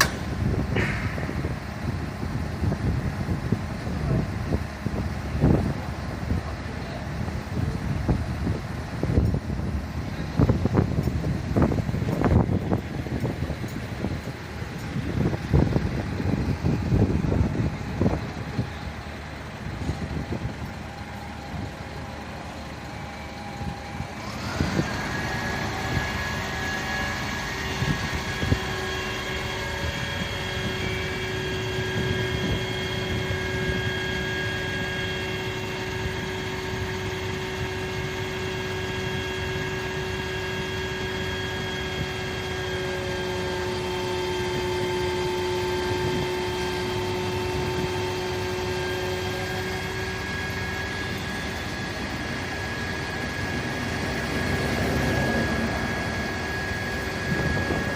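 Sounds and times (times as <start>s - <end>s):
fire truck engine whining: 0.0s - 57.9s.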